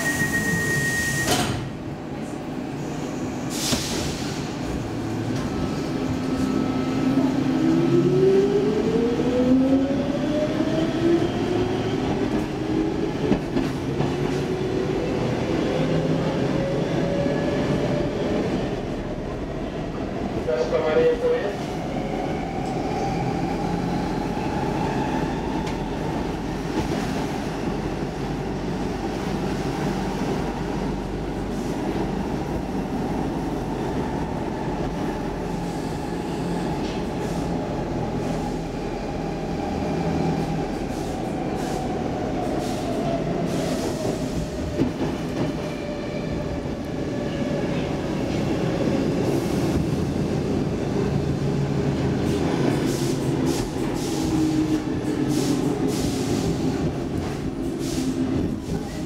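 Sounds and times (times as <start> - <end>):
subway car rumble: 0.0 - 59.0.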